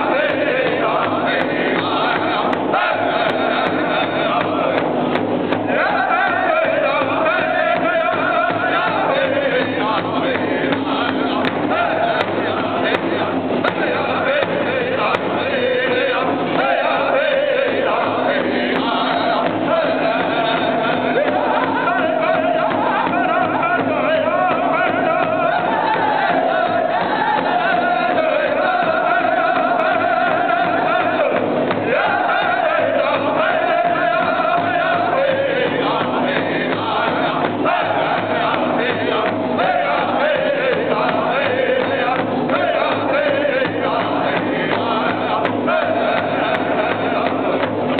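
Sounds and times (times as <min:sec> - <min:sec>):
group singing in unison: 0:00.0 - 0:47.9
large hide drum beating: 0:00.0 - 0:47.9.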